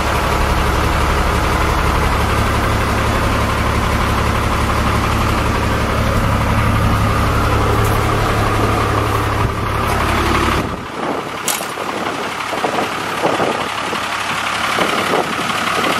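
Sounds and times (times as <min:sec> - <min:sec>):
diesel engine idling: 0:00.0 - 0:15.9
engine knocks: 0:00.0 - 0:15.9.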